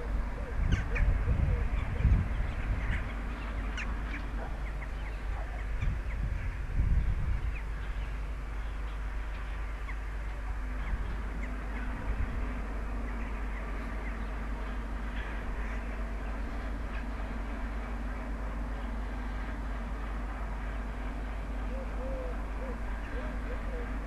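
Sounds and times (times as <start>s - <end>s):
birds chirping: 0.0s - 24.0s
low steady rumble: 0.0s - 24.0s.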